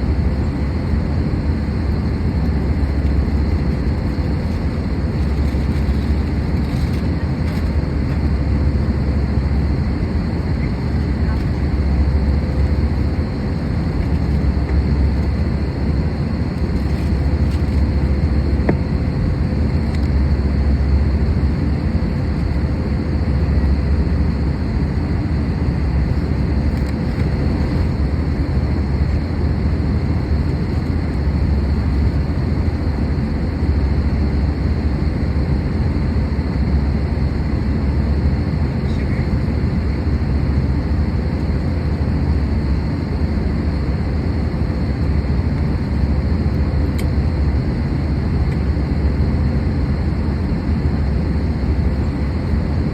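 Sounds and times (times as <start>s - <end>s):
airplane cabin airflow and engine drone: 0.0s - 52.9s.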